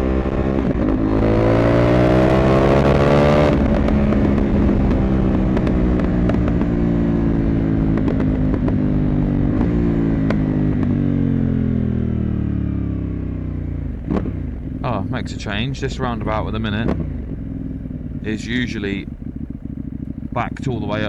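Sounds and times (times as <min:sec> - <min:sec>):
motorcycle engine and exhaust: 0:00.0 - 0:21.0.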